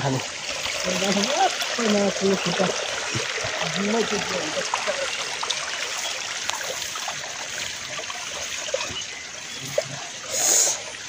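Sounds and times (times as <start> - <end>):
water trickling in stream: 0.0 - 11.0.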